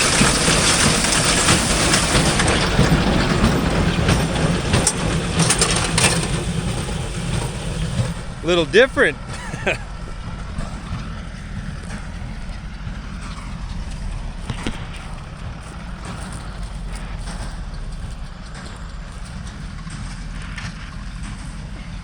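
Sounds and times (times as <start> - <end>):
tractor engine rumble: 0.0 - 22.0.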